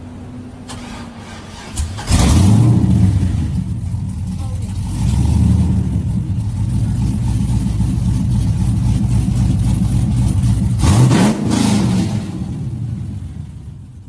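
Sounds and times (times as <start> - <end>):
car engine running and revving: 0.0 - 14.0.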